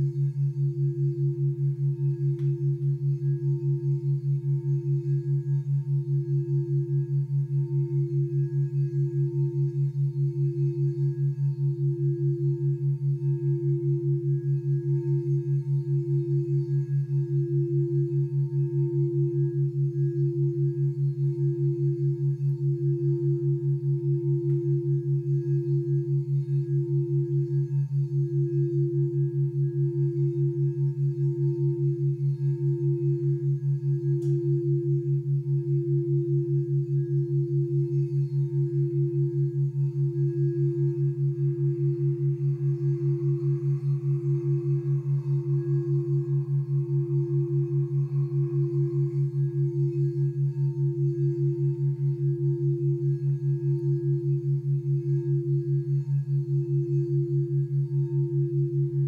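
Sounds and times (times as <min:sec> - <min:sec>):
low pulsing hum: 0:00.0 - 0:59.0
singing bowl ringing tone: 0:00.0 - 0:59.0.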